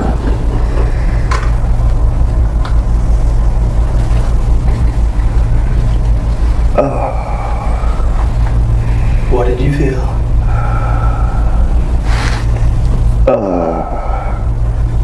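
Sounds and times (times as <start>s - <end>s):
machine low drone: 0.0s - 15.0s.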